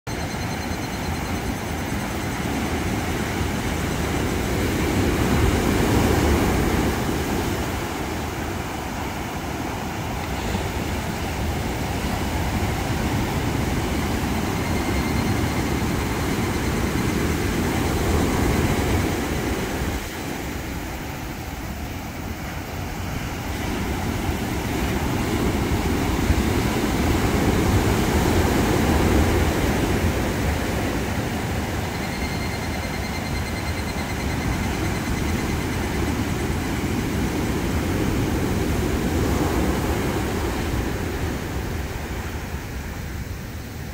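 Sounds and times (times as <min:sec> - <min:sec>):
faint cicadas calling: 0:00.1 - 0:43.9
surf breaking on beach: 0:02.5 - 0:43.9.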